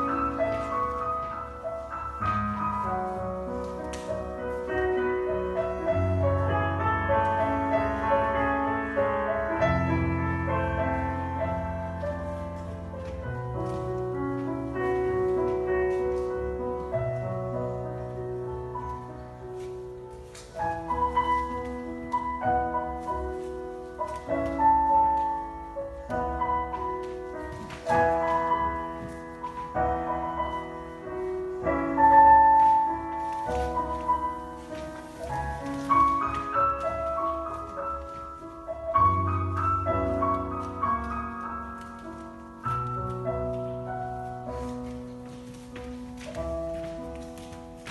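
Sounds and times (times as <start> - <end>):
solo piano music: 0.0 - 47.9.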